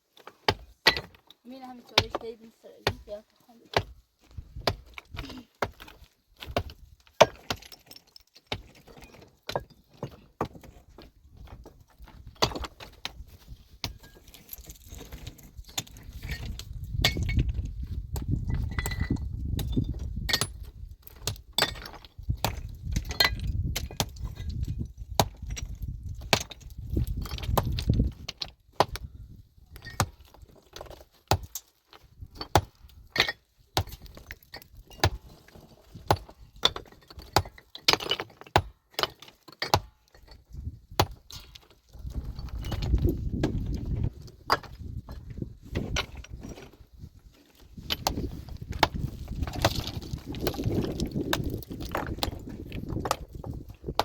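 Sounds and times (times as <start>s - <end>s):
pickaxes striking rock: 0.2s - 1.2s, 2.0s - 29.1s, 29.7s - 46.7s, 47.8s - 54.0s
stones clinking and knocking: 3.7s - 54.0s.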